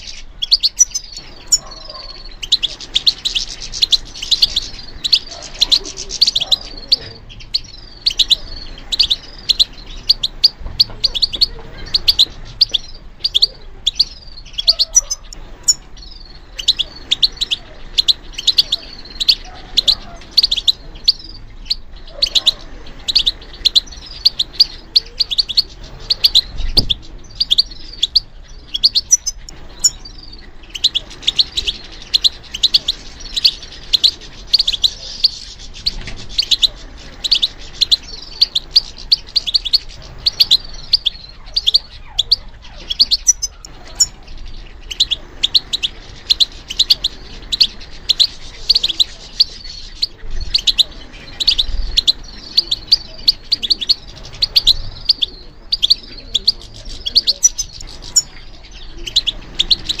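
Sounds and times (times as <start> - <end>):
goldfinch twittering: 0.0 - 60.0.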